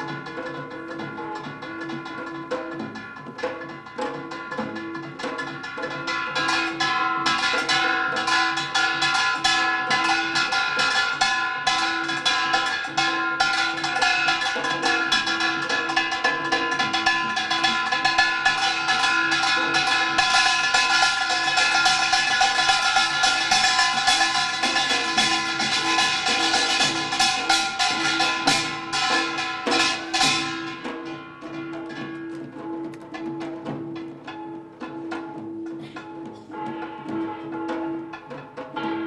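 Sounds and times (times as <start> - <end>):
percussion ensemble playing: 0.0 - 39.0.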